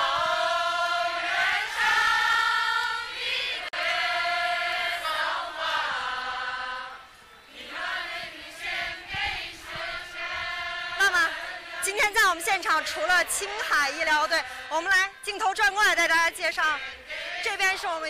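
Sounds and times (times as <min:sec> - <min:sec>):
group of people singing: 0:00.0 - 0:18.0.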